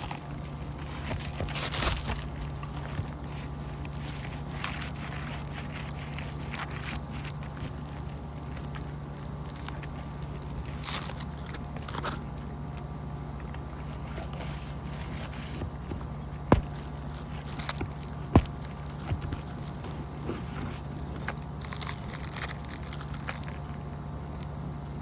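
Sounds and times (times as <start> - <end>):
scraping and prying shingles: 0.0 - 24.1
steady low hum: 0.0 - 25.0.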